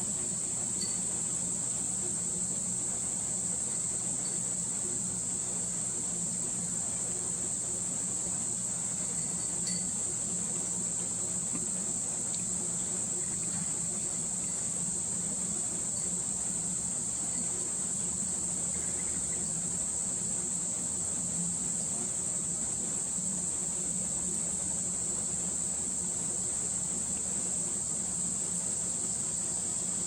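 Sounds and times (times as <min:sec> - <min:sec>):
faint low hum: 0:00.0 - 0:30.0
insect chorus trilling: 0:00.1 - 0:30.0.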